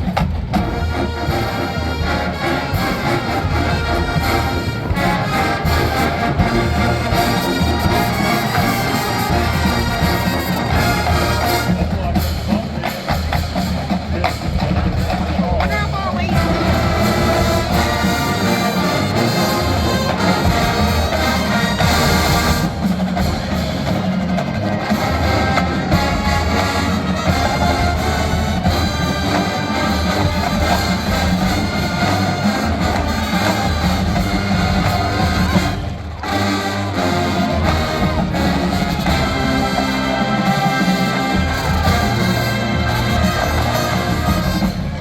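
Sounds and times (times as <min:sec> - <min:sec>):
marching band playing jazz: 0:00.0 - 0:45.0.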